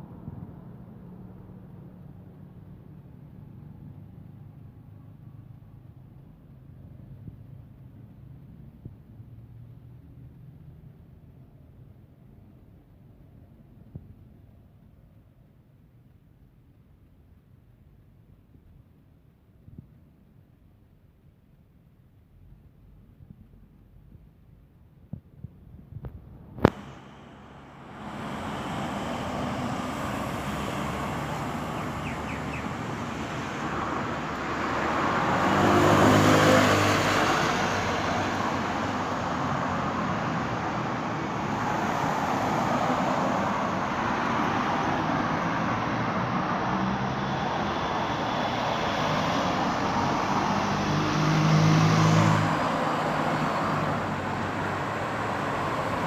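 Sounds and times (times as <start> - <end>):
vehicles passing close by: 0.0 - 14.9, 25.4 - 56.0
road traffic: 0.0 - 15.4, 22.4 - 56.0.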